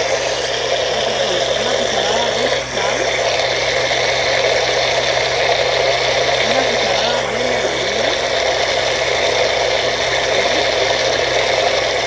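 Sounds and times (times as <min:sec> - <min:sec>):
blender running: 0:00.0 - 0:12.0.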